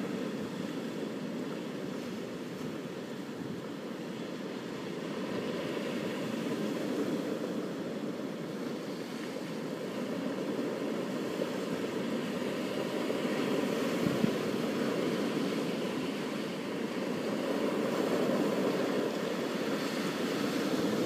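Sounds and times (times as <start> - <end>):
ocean waves washing onto beach: 0.0 - 21.0.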